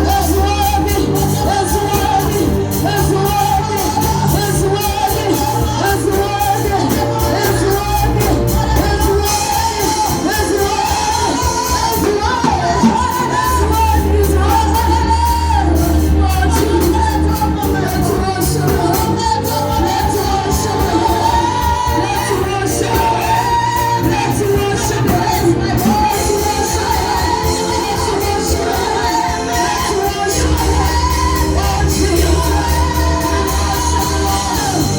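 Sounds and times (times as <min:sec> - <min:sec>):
gospel singing with band: 0:00.0 - 0:34.9.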